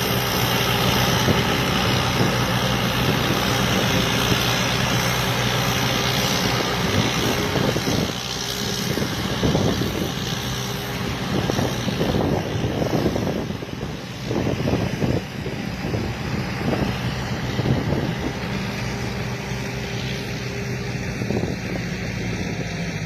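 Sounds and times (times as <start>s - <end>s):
diesel engine running: 0.0s - 23.0s
gusty rough noise: 0.3s - 19.3s.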